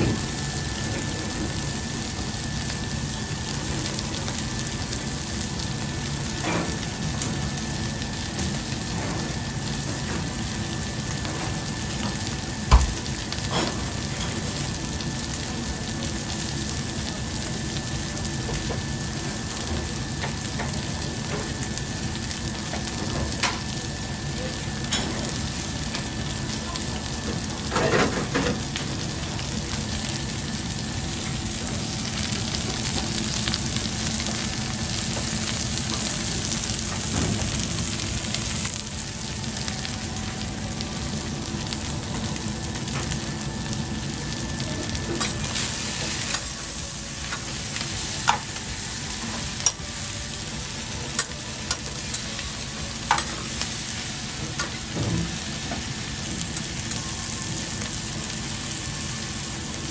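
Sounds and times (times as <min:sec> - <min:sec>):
food sizzling on griddle: 0:00.0 - 0:59.9.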